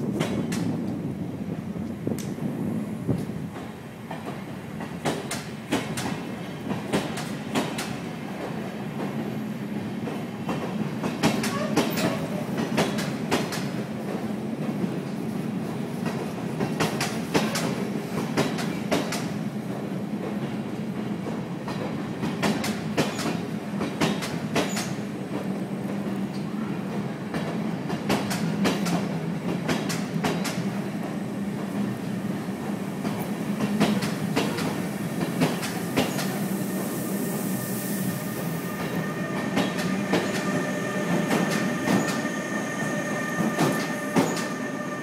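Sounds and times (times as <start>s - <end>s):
train coaches rumbling: 0.0s - 45.0s.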